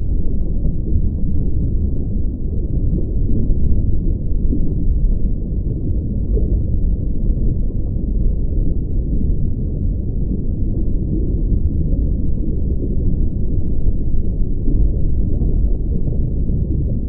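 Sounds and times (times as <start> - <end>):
deep rumble: 0.0 - 17.0.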